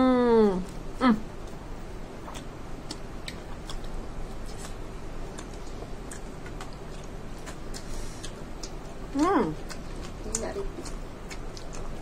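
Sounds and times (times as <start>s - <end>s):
low background noise: 0.0s - 12.0s
chewing and lip-smacking: 0.6s - 12.0s.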